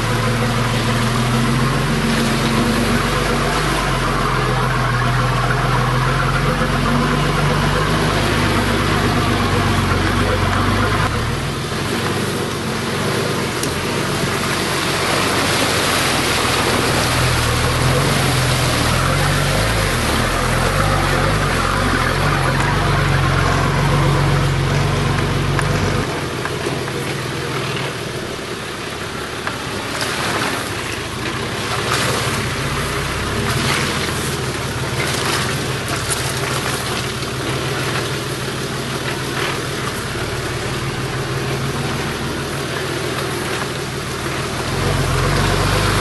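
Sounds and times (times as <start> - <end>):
vehicle engine running: 0.0 - 46.0.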